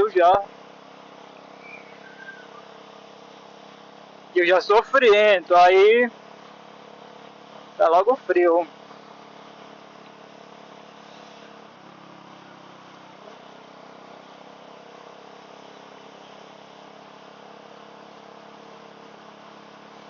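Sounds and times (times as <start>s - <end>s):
muffled motorcycle engine: 0.0s - 20.0s.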